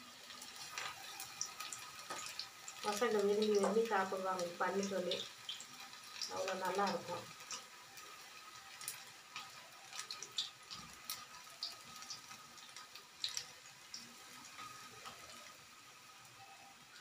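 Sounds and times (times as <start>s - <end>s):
food deep-frying in oil: 0.0s - 17.0s
crackling pops of frying oil: 0.4s - 15.5s.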